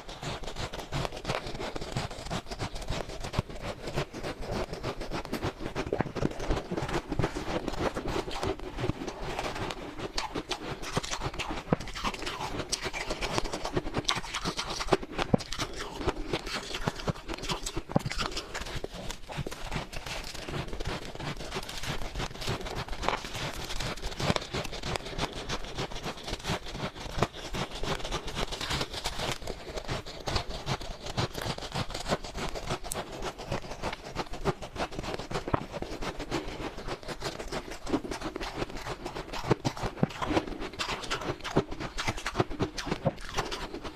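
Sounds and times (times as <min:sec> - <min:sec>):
crunching and chewing ice: 0:00.0 - 0:43.9.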